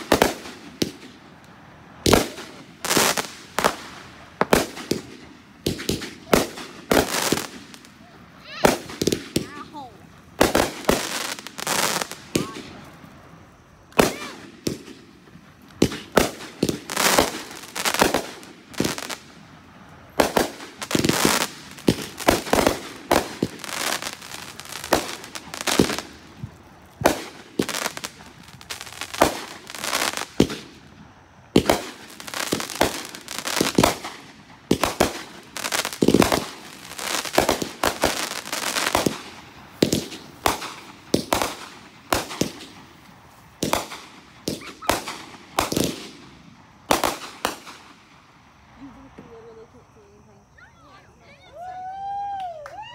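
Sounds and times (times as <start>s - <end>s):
fireworks bursting with bangs: 0.0s - 52.9s.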